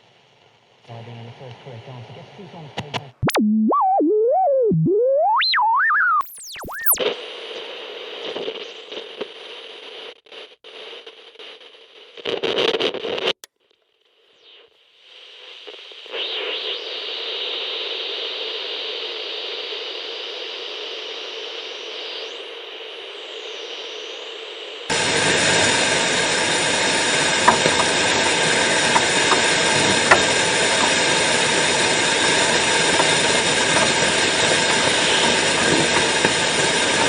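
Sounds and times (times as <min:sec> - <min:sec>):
radio static hiss: 0:00.0 - 0:04.0, 0:05.3 - 0:13.4, 0:14.1 - 0:37.0
radio tuning whistle: 0:03.1 - 0:12.2, 0:14.2 - 0:37.0.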